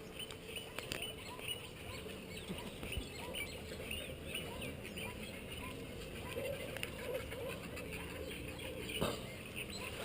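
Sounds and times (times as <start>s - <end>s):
birds chirping: 0.0s - 10.0s
faint outdoor background noise: 0.0s - 10.0s.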